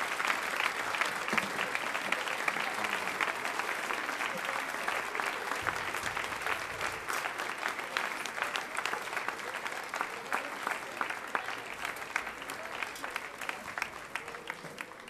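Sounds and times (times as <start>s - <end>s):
audience applause: 0.0s - 15.0s.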